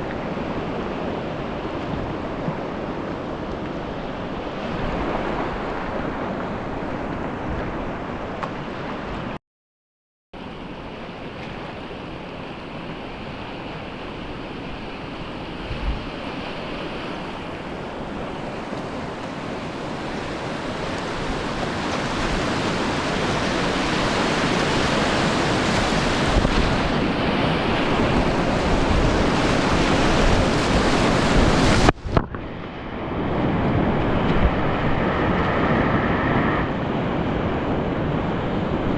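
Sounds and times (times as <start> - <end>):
rushing river water: 0.0 - 9.4, 10.4 - 38.9
wind buffeting microphone: 0.0 - 9.4, 12.8 - 38.9.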